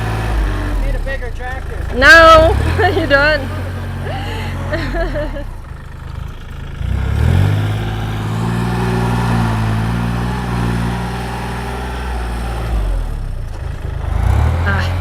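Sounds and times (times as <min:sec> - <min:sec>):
tractor engine revving: 0:00.0 - 0:15.0.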